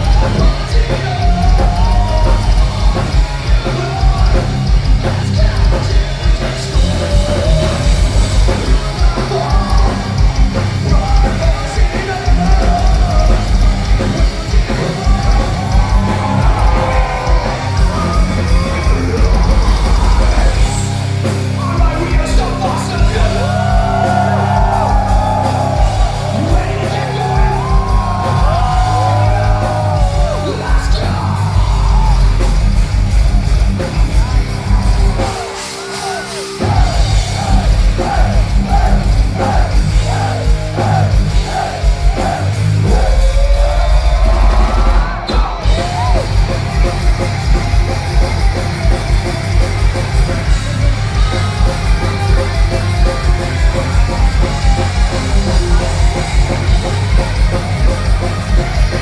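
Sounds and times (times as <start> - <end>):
bass guitar: 0.0 - 59.0
distorted guitars: 0.0 - 59.0
fast pounding drums: 0.0 - 59.0
yelled vocals: 0.0 - 59.0.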